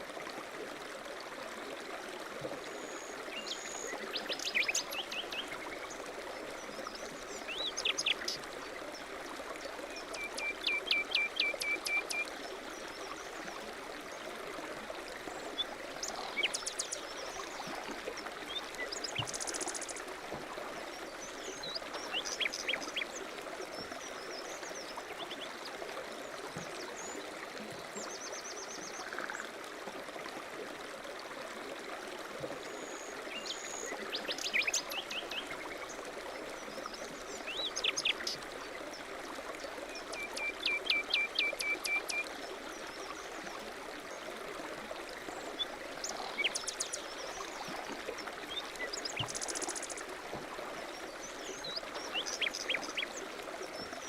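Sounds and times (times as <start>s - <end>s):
stream running: 0.0s - 54.0s.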